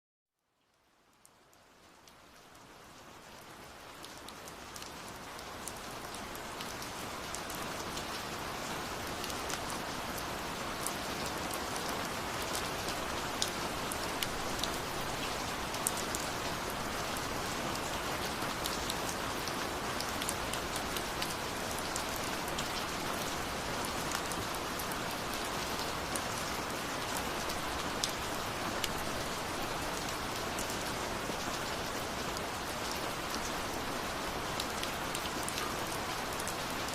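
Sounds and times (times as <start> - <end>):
steady rain falling: 0.3 - 36.9.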